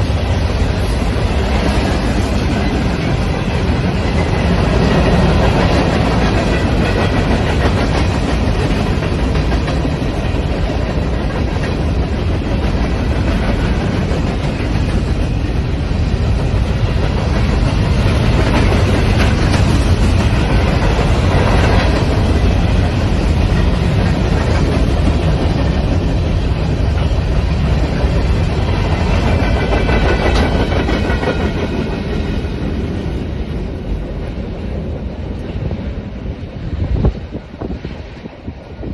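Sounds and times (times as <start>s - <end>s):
freight train cars rolling past: 0.0s - 38.9s.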